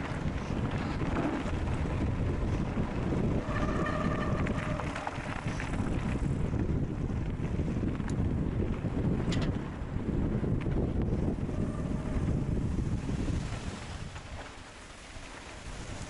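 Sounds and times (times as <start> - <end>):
bike tyres rolling over gravel: 0.0 - 16.0
wind buffeting microphone: 0.0 - 16.0.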